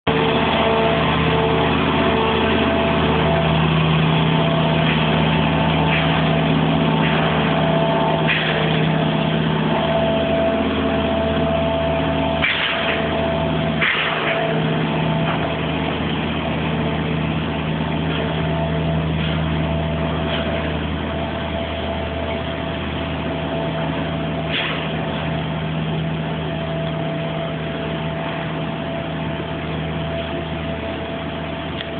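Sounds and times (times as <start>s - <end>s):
heavy vehicle engine running: 0.0s - 31.9s.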